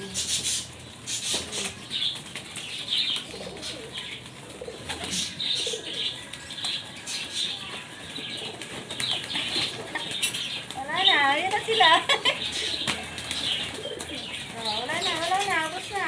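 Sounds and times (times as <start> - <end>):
pigeons cooing: 0.0 - 16.0
wings flapping: 1.1 - 16.0.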